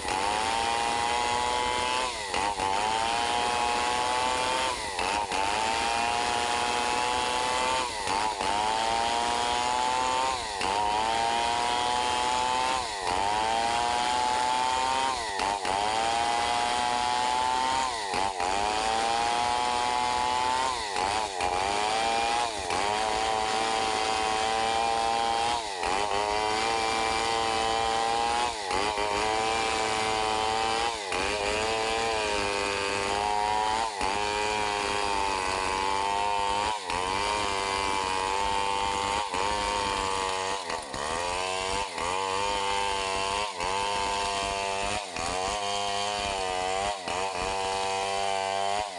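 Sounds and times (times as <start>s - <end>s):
chainsaw ripping a log: 0.0s - 48.9s.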